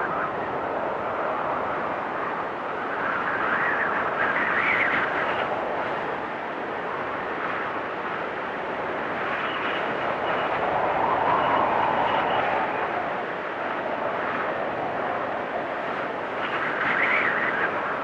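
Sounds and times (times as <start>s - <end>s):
storm wind gusting: 0.0s - 18.0s
wind whistling: 0.0s - 18.0s.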